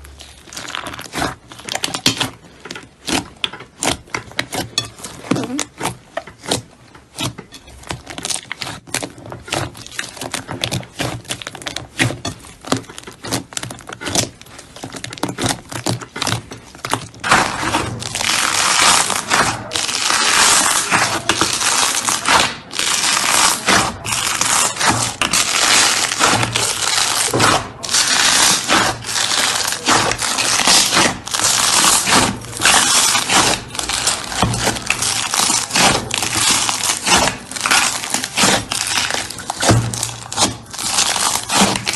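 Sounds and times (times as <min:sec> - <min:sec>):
slime crackling crunch: 0:00.0 - 0:41.9.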